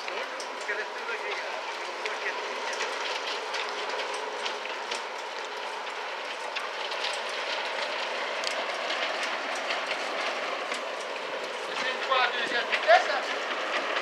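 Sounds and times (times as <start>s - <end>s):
small wheels clicking over rail joints: 0.0s - 14.0s.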